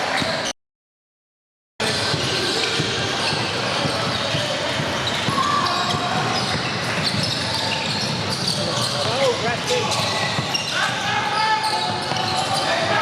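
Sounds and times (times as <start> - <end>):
basketball bouncing on court: 1.8 - 13.0
shoe squeaks: 1.8 - 13.0.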